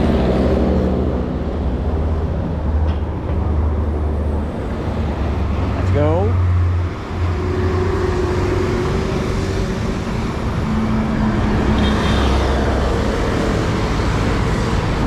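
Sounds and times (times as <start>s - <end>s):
road noise rumble: 0.0s - 15.0s
vehicles passing: 0.0s - 15.0s.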